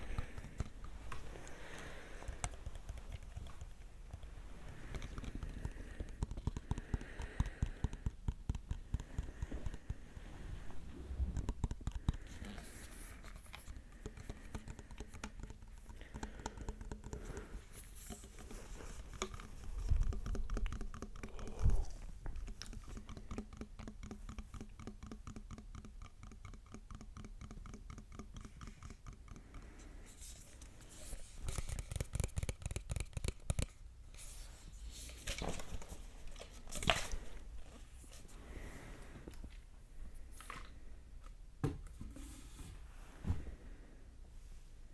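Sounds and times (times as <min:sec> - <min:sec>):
close-up scratching and tapping: 0:00.0 - 0:38.4.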